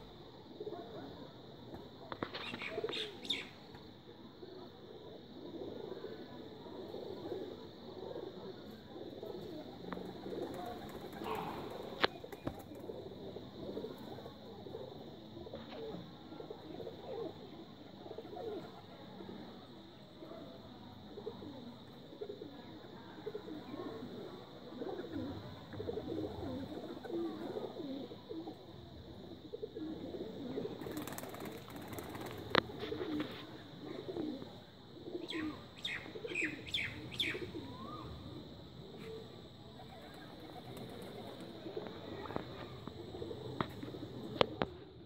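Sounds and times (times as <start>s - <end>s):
pigeons cooing: 2.2s - 45.0s.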